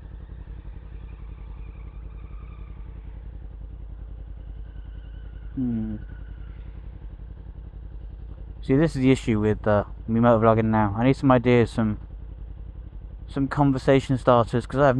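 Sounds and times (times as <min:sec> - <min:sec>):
muffled motorcycle engine idling: 0:00.0 - 0:14.9.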